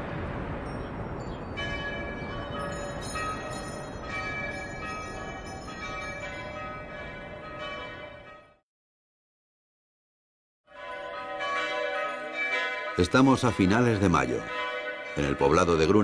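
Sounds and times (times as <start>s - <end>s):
church bells ringing: 0.6s - 8.6s, 10.7s - 16.0s.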